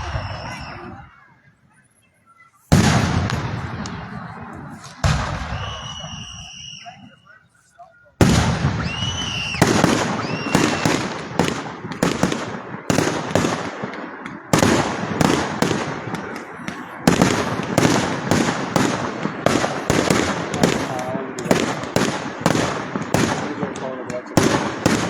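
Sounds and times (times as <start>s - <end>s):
fireworks bursting with crackle: 0.0s - 1.4s, 2.4s - 25.0s.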